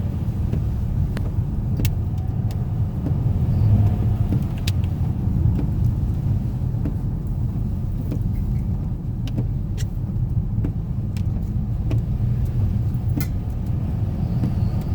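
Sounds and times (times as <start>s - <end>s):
engine and road rumble: 0.0s - 14.9s.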